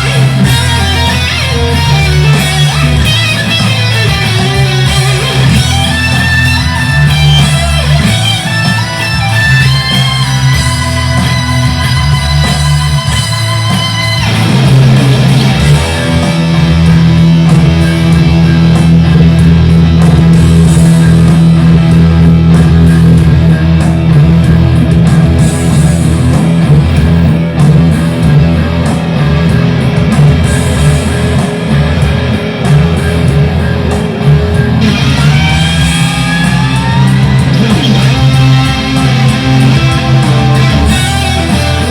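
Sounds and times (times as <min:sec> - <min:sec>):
electric guitar with vibrato: 0:00.0 - 0:41.9.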